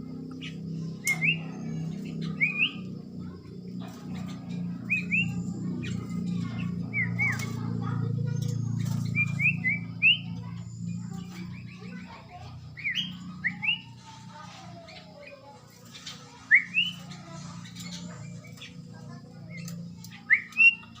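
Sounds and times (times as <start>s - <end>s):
bird rising chirps: 0.0s - 21.0s
low background hum: 0.0s - 21.0s.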